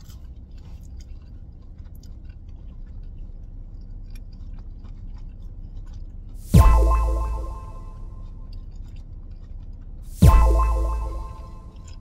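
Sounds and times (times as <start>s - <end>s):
low steady rumble: 0.0s - 12.0s
person chewing: 0.0s - 12.0s.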